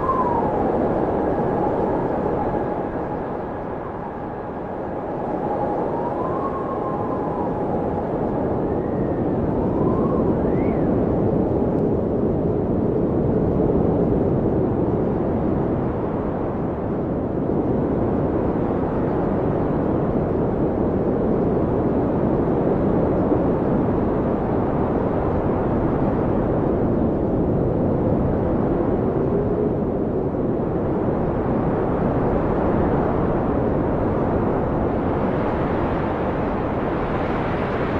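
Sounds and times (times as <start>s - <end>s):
blizzard wind howling: 0.0s - 37.9s.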